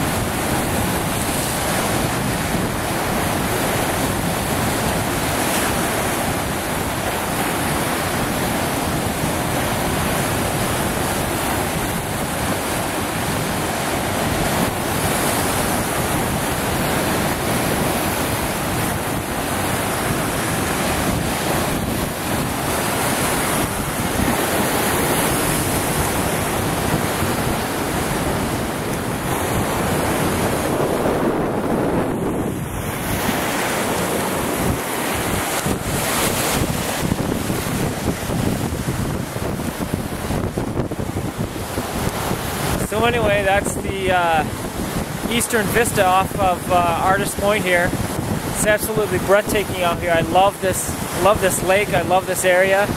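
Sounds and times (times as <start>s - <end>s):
surf breaking over rocks: 0.0s - 52.9s
wind buffeting microphone: 0.0s - 52.9s.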